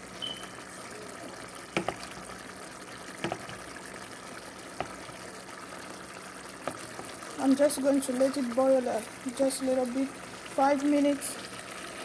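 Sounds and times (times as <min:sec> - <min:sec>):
stew bubbling in a pan: 0:00.0 - 0:12.0.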